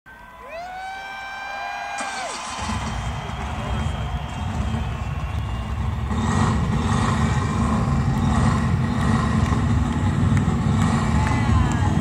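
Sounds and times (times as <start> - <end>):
concert crowd roar: 0.1 - 12.0.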